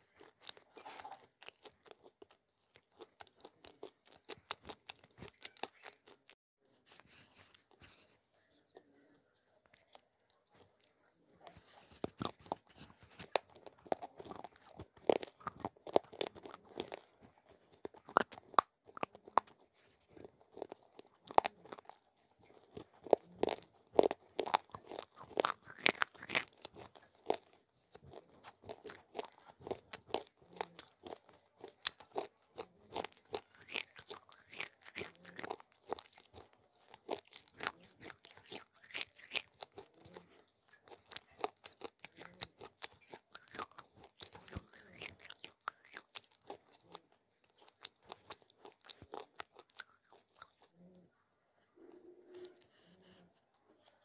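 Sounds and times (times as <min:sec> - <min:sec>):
crunching and chewing clay: 0:00.0 - 0:51.2.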